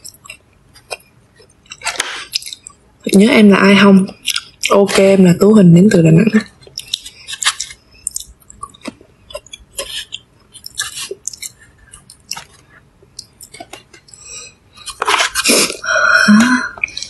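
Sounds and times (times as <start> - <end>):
person chewing food: 0.0 - 2.8, 4.1 - 4.8, 6.6 - 17.0.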